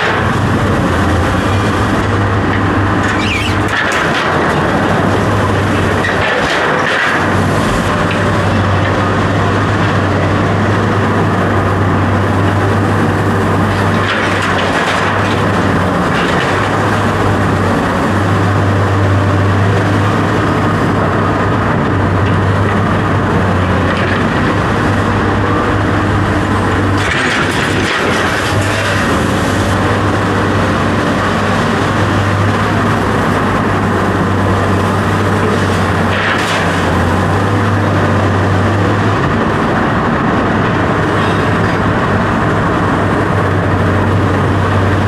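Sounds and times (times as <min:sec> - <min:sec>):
machine noise with low hum: 0:00.0 - 0:45.0.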